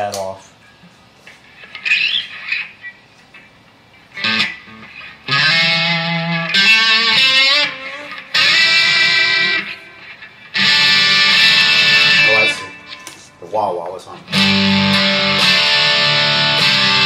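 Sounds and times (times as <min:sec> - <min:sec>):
electric guitar with wah effect: 0:01.2 - 0:13.4, 0:14.1 - 0:17.0.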